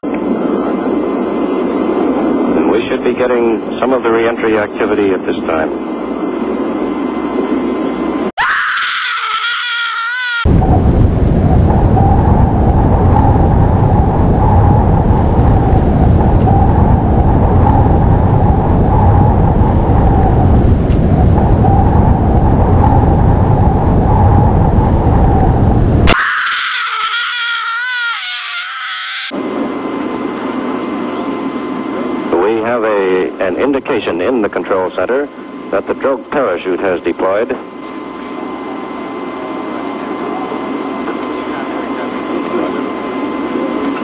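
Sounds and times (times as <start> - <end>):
loud steady rumbling roar: 0.0 - 44.0.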